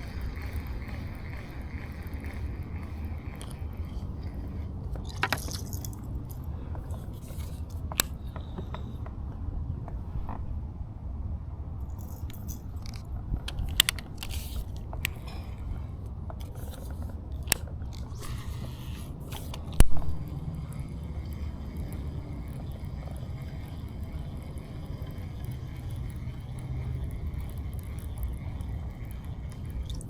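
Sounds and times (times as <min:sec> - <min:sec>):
scrapes rustles and clicks: 0:00.0 - 0:10.6, 0:11.9 - 0:30.0
steady low rumble: 0:00.0 - 0:30.0.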